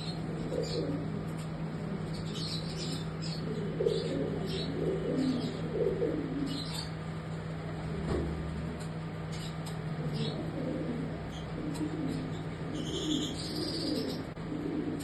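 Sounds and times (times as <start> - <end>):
pigeon cooing: 0.0 - 15.0.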